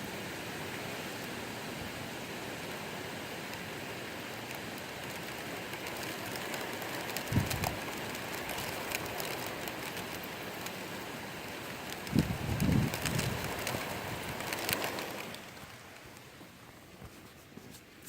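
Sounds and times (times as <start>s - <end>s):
heavy rain: 0.0s - 16.7s
raindrops ticking: 2.6s - 17.1s.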